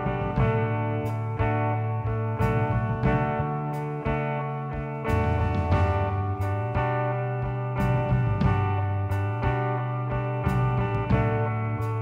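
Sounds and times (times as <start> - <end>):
held music tones: 0.0 - 12.0
plucked string notes: 0.0 - 12.0.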